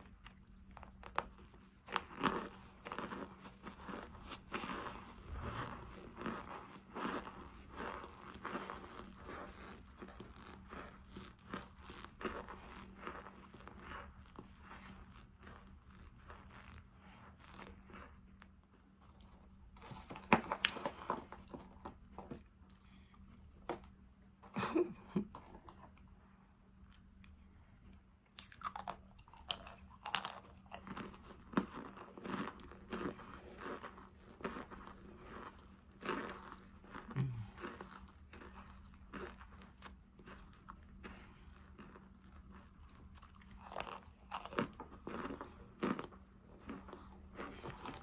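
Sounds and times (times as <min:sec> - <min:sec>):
crunching cornstarch: 0:00.0 - 0:21.7, 0:28.4 - 0:48.0.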